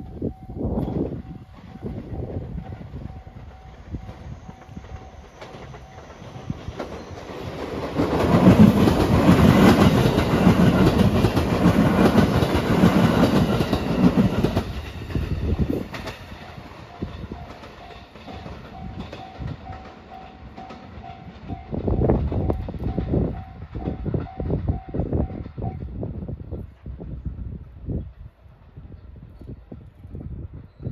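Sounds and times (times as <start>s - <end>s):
train wheels clattering over rails: 0.8s - 26.0s.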